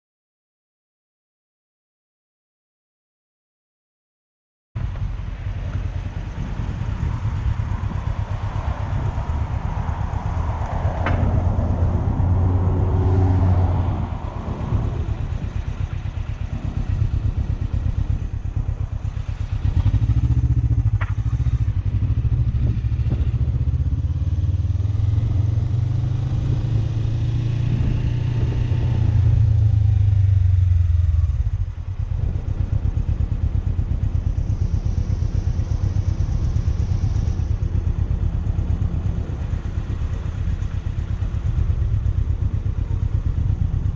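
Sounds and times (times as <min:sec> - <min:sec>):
motorcycle engine running: 0:04.8 - 0:43.9.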